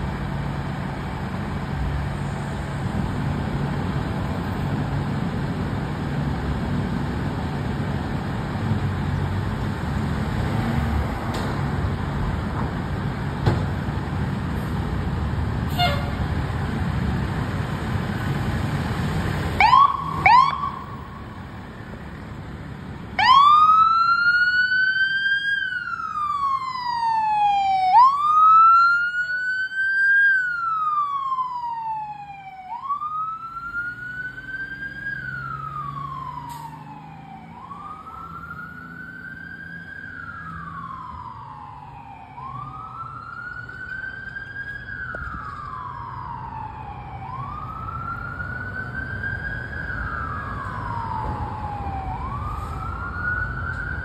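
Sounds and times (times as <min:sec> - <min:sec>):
fire engine wail siren: 0:00.0 - 0:54.0.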